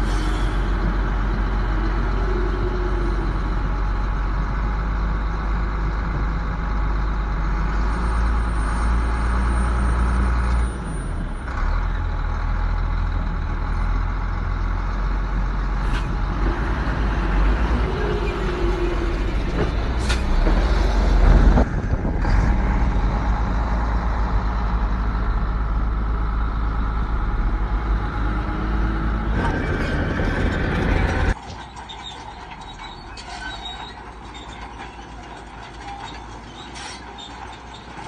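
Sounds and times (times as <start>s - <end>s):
diesel earthmoving machinery rumble: 0.0s - 38.0s.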